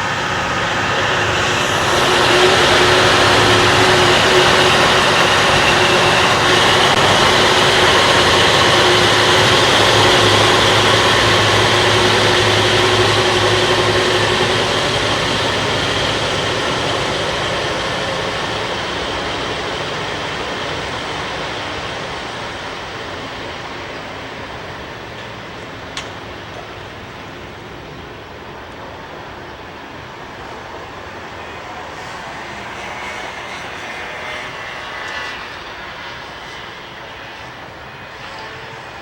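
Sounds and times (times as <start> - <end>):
diesel railcar engine accelerating: 0.0 - 39.0.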